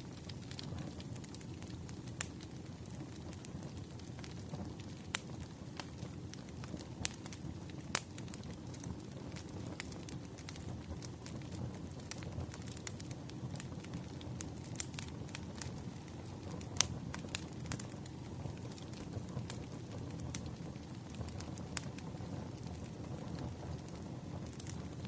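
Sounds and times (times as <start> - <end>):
campfire crackling: 0.0 - 25.0
burning wood popping: 0.1 - 25.0.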